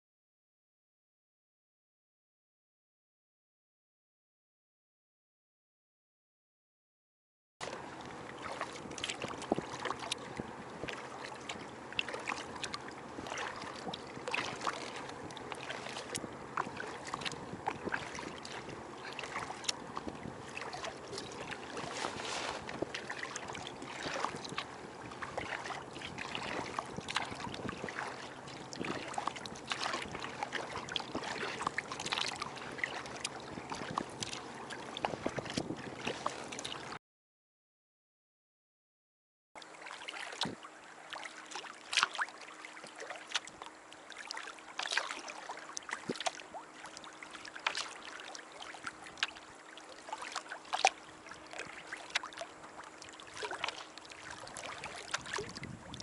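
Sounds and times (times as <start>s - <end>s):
water splashing around a kayak: 7.6s - 37.0s, 39.6s - 56.0s.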